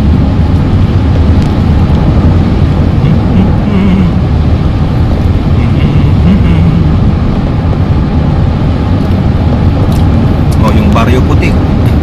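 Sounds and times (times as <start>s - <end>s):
car road noise at speed: 0.0s - 12.0s.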